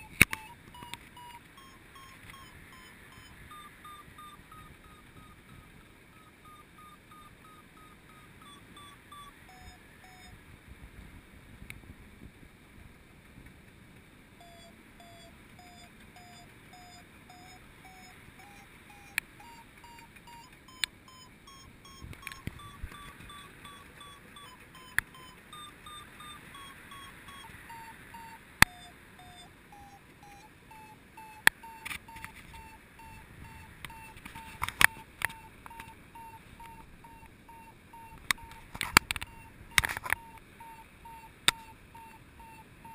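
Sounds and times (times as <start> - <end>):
variometer beeping: 0.0 - 10.4, 14.4 - 42.9.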